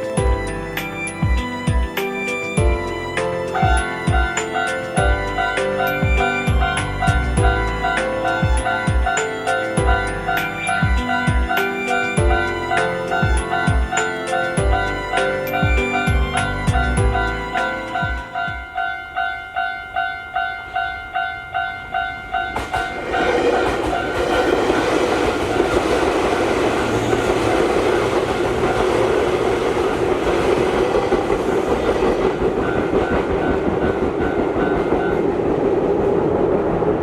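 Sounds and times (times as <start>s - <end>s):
train wheels rumbling and clattering: 2.6s - 37.0s
level crossing warning bell: 2.8s - 30.1s, 32.5s - 35.6s.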